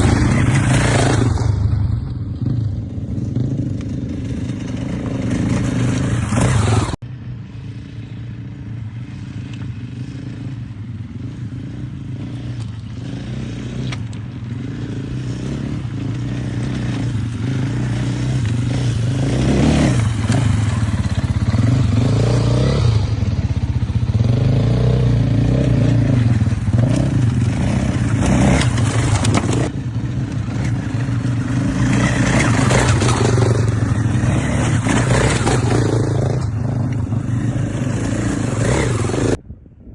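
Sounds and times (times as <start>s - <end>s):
motocross motorcycle engine revving: 0.0s - 1.6s, 2.4s - 7.0s, 9.8s - 39.4s.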